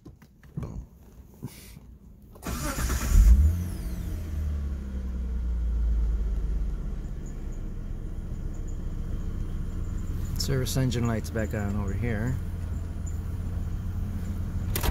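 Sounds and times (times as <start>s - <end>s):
car engine starting and idling: 2.3s - 14.9s.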